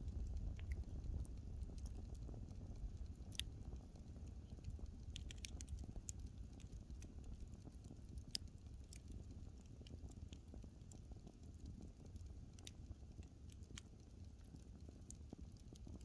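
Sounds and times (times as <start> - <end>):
burning wood crackling: 0.0 - 16.0
fire pops and snaps: 0.0 - 16.0.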